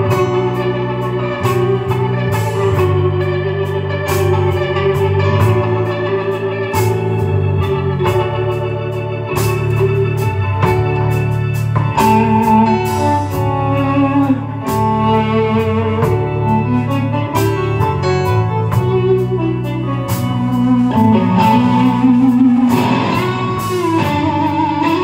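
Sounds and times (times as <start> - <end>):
bass guitar: 0.0 - 25.0
organ playing sustained chords: 0.0 - 25.0
steady drum beat: 0.0 - 25.0.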